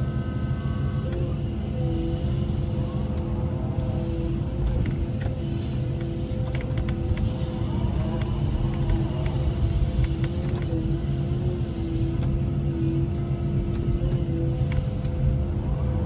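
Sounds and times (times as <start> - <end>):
excavator diesel engine running: 0.0 - 16.0
hydraulic whine: 0.0 - 16.0
low rumble: 0.0 - 16.0.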